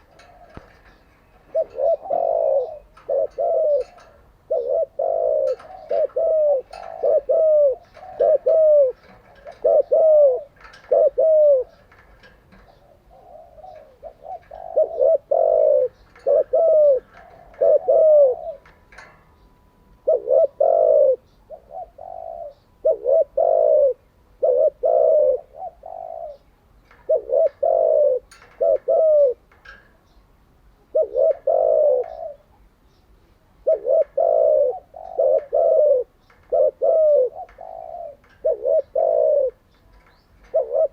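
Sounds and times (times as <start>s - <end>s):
dove cooing: 0.0s - 30.2s, 30.8s - 32.6s, 33.6s - 40.9s.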